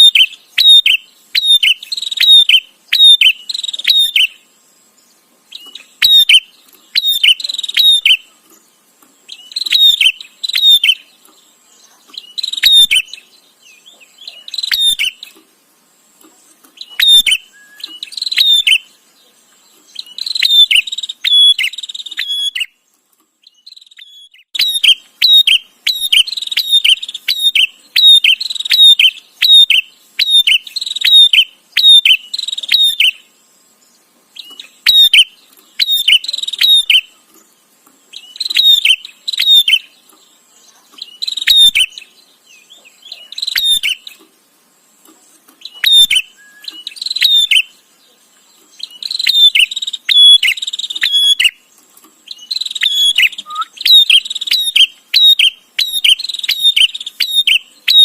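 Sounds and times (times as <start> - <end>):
bird chirping sharply: 0.0 - 4.5, 5.5 - 8.3, 9.2 - 15.4, 16.7 - 19.1, 19.9 - 22.8, 23.4 - 33.3, 34.4 - 37.1, 38.1 - 40.2, 40.9 - 44.2, 45.6 - 47.8, 48.8 - 51.7, 52.3 - 58.0.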